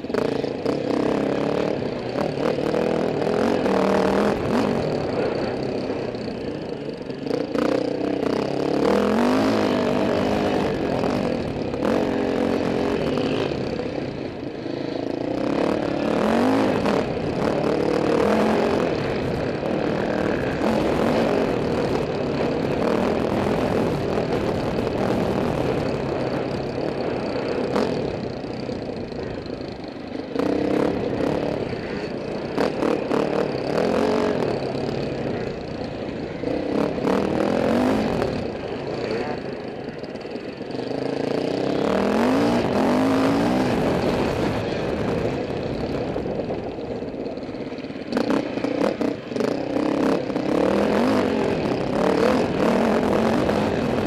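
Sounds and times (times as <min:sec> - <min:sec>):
dirt bike engine accelerating: 0:00.0 - 0:54.0.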